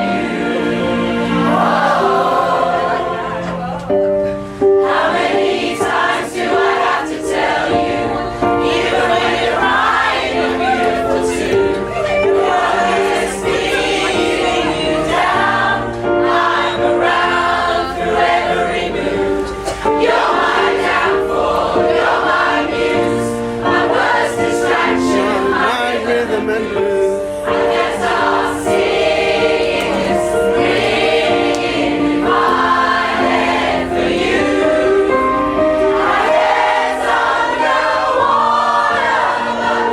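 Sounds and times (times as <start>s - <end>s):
choir singing a pop song: 0.0s - 4.0s, 4.6s - 39.9s
musical accompaniment: 0.0s - 39.9s.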